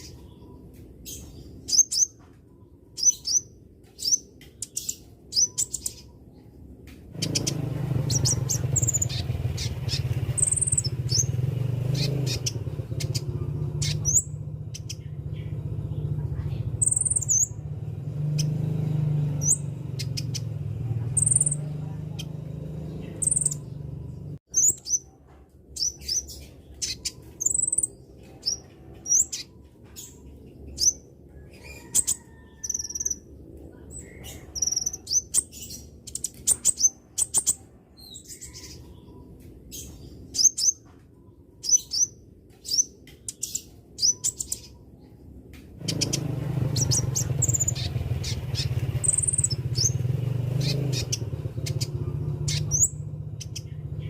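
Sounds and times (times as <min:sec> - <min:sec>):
sunbird high chirps and twitters: 0:00.0 - 0:54.0.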